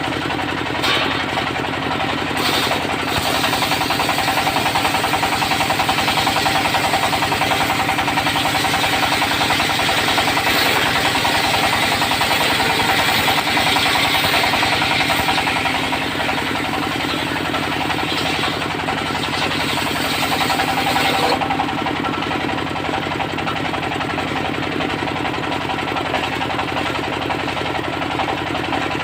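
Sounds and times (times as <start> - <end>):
diesel sawmill engine thumping: 0.0 - 29.0.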